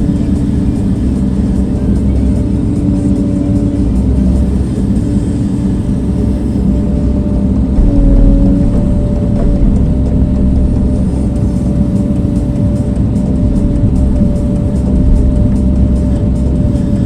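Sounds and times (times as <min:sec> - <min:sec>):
engine running loudly: 0:00.0 - 0:17.0
engine whine: 0:00.0 - 0:17.0.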